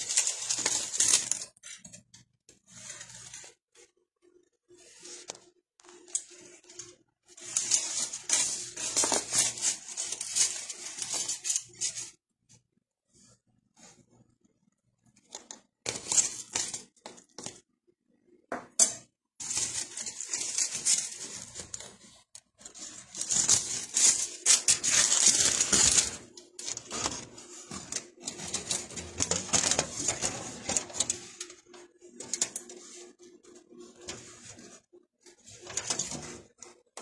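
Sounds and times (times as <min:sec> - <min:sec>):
aluminium foil crinkling and clinking: 0:00.0 - 0:03.9, 0:04.8 - 0:12.2, 0:15.2 - 0:17.6, 0:18.6 - 0:37.0.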